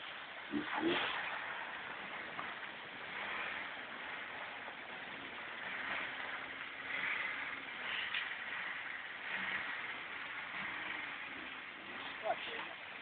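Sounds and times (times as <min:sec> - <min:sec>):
vehicle engine: 0:00.0 - 0:13.0
water rushing and splashing: 0:00.0 - 0:13.0.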